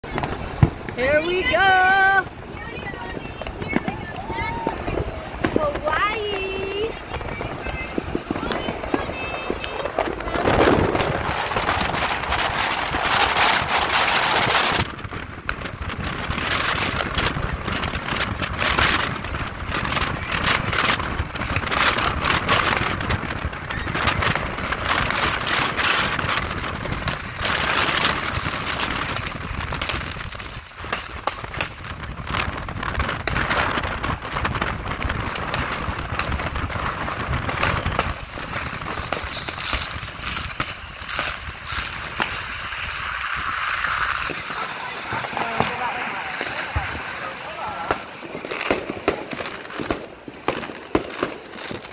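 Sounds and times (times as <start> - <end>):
car road and wind noise: 0.0 - 49.9
firecrackers popping: 0.0 - 51.9.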